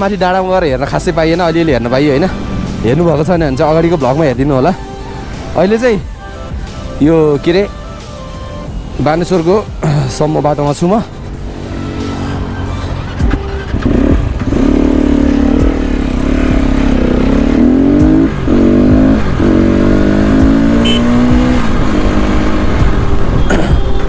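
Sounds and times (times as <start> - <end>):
motorcycle engine revving: 0.9 - 5.8, 8.2 - 24.0.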